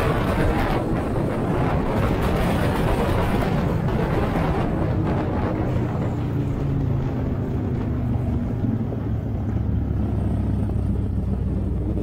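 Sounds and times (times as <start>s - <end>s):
motorcycle engine hum: 0.0s - 12.0s
wind rushing over microphone: 0.0s - 12.0s.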